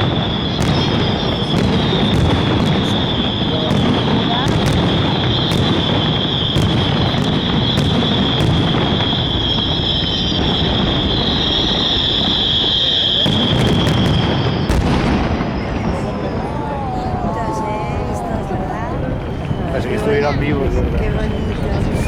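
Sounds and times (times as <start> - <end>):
fireworks rushing hiss: 0.0 - 22.0
fireworks sharp cracks: 0.0 - 22.0.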